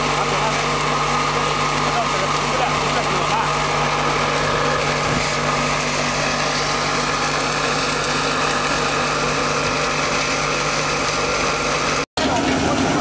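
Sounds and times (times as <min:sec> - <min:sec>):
electric motors humming: 0:00.0 - 0:13.0
fan whirring: 0:00.0 - 0:13.0.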